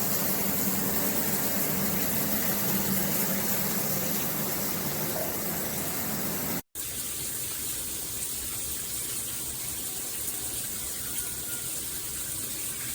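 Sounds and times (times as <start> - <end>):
shower water spraying: 0.0 - 12.9.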